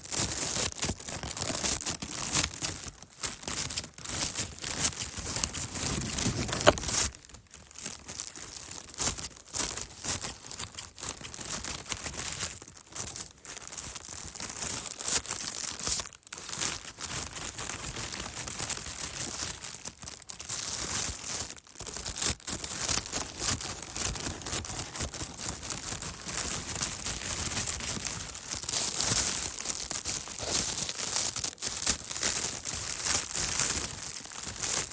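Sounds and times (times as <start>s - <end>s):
plastic bag crinkling and tearing: 0.0s - 34.9s.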